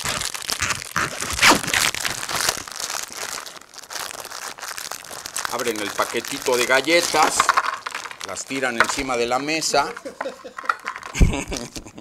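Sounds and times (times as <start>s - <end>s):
cracker wrapper crinkling and tearing: 0.0s - 11.8s.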